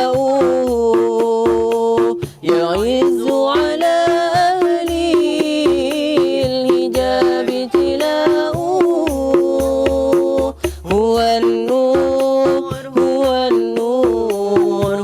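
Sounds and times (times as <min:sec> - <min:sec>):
person singing ornamented notes: 0:00.0 - 0:15.0
steady drum beat: 0:00.0 - 0:15.0.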